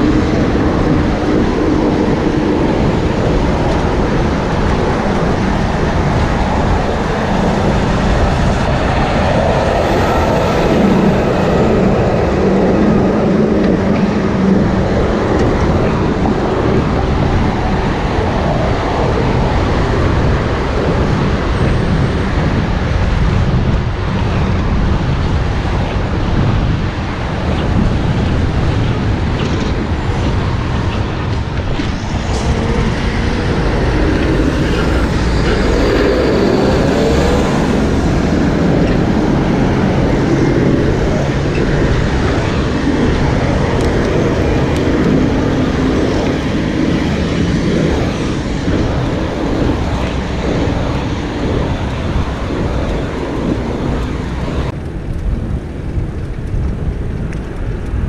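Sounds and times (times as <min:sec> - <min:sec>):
cars and trucks driving past: 0:00.0 - 0:23.6, 0:26.6 - 0:54.7
wind on microphone: 0:00.0 - 0:58.0.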